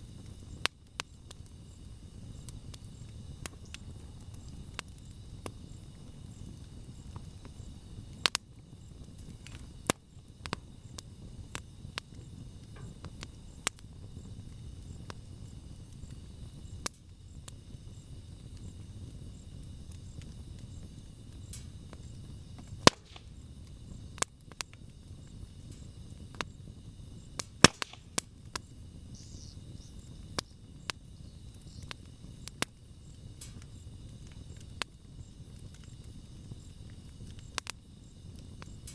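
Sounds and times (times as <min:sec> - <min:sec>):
burning wood crackling and popping: 0:00.0 - 0:38.9
rush of flame: 0:00.0 - 0:38.9.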